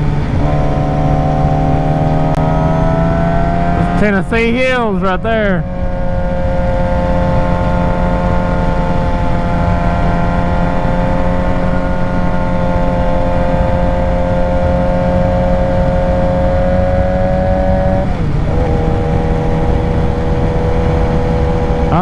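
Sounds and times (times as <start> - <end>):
motorcycle engine cruising: 0.0 - 22.0
wind and road rush: 0.0 - 22.0.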